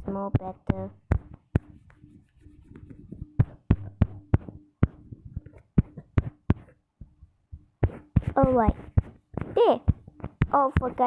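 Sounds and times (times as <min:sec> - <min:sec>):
faint steady hum: 0:00.0 - 0:11.0
taps on a touchscreen: 0:00.0 - 0:11.0.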